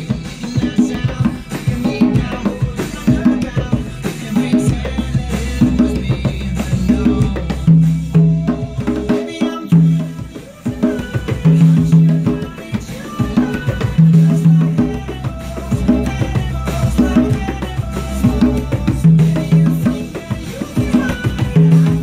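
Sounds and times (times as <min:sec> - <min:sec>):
steady bass notes: 0:00.0 - 0:10.3, 0:13.6 - 0:22.0
conga drums played by hand: 0:00.0 - 0:22.0
pop song instrumental backing: 0:00.0 - 0:22.0.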